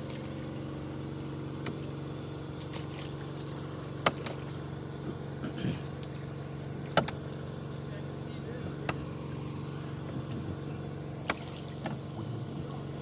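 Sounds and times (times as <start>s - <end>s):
air compressor engine humming: 0.0s - 13.0s.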